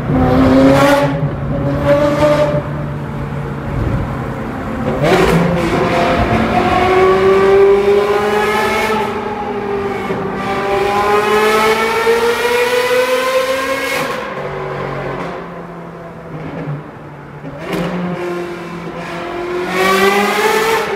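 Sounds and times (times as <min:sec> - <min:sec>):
sports car engine accelerating: 0:00.0 - 0:20.9.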